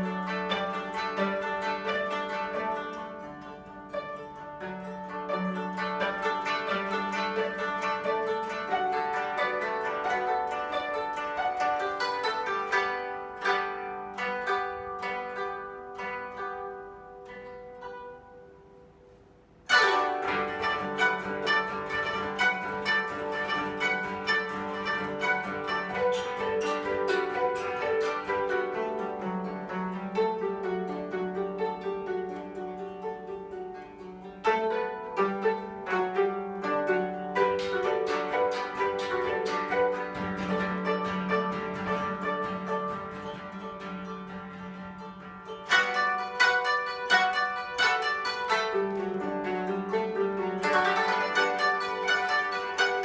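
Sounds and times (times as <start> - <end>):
koto ensemble plucking: 0.0 - 53.0.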